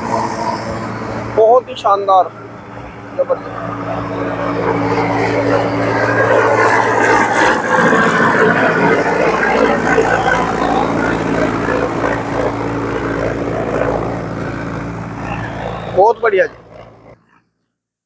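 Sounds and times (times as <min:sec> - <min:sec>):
tractor diesel engine under load: 0:00.0 - 0:17.3.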